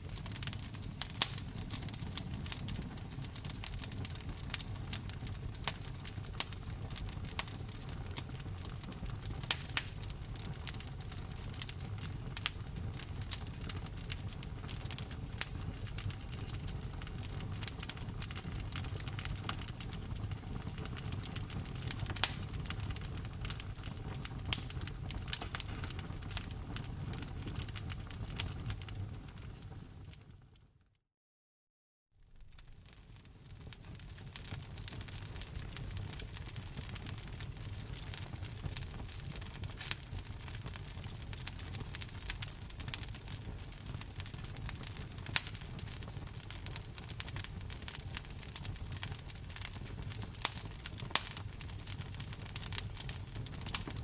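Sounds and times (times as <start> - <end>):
loud fire pops: 0.0 - 30.2, 32.2 - 54.0
wood fire crackling: 0.0 - 30.4, 32.2 - 54.0.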